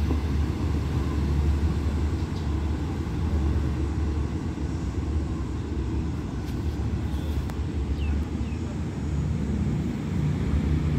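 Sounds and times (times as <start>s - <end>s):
train rumbling: 0.0s - 10.9s.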